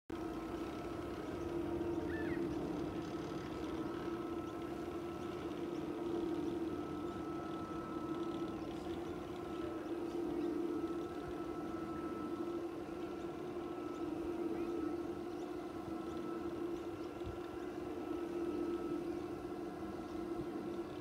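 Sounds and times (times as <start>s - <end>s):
electric motor hum and whine: 0.1s - 21.0s.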